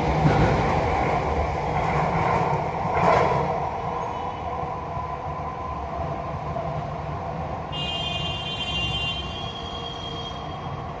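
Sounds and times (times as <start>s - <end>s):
train rumble: 0.0s - 8.8s
city background hum: 0.0s - 11.0s.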